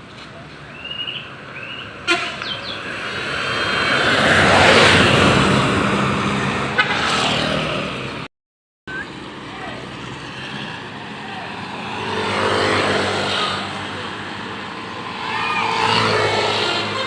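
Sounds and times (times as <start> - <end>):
bus passing by: 0.0 - 8.3, 8.9 - 17.0.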